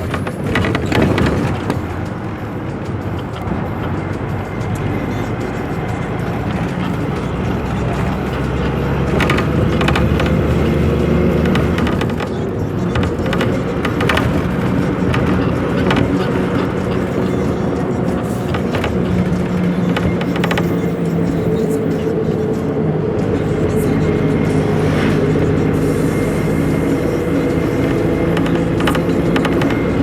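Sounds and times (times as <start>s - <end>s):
music playing: 0.0s - 30.0s
vehicle engine and road noise: 0.0s - 30.0s.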